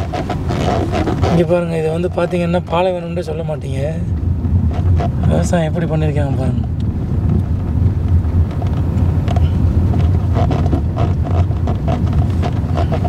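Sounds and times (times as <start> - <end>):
wind on microphone: 0.0 - 2.9, 3.9 - 13.0
vehicle engine and tyres rumbling: 0.0 - 13.0.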